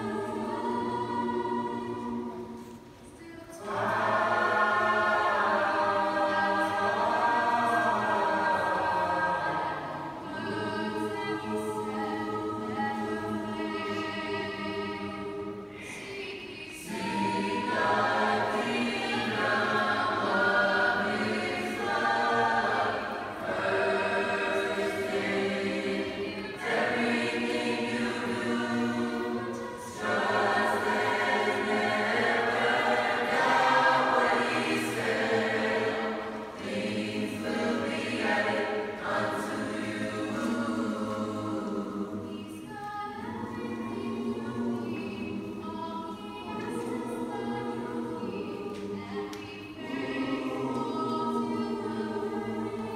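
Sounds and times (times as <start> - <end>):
children's choir singing: 0.0 - 52.9.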